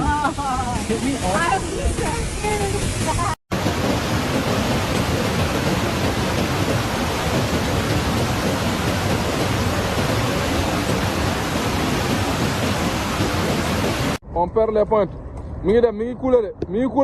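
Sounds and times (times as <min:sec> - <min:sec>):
heavy rain: 0:00.0 - 0:14.2.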